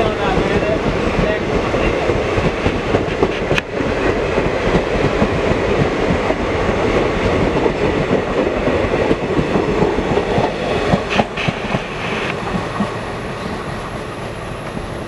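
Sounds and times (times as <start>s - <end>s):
train wheels clattering over rail joints: 0.0s - 13.9s.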